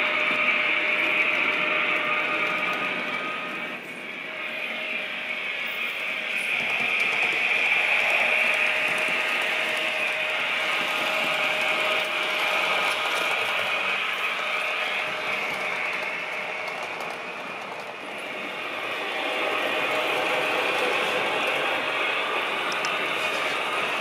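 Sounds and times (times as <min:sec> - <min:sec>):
model train running: 0:00.0 - 0:24.0.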